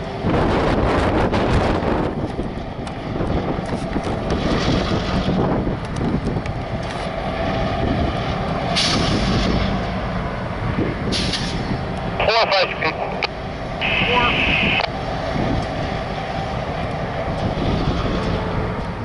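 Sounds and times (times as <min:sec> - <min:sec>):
diesel locomotives rumbling: 0:00.0 - 0:19.0
wind buffeting microphone: 0:00.0 - 0:19.0.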